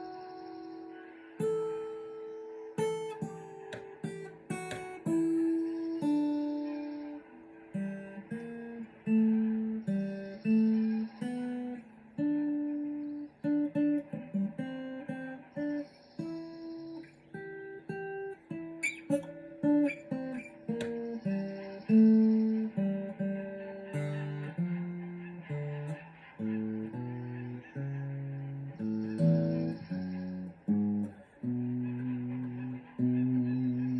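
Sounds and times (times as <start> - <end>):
acoustic guitar picking: 0.0 - 33.9.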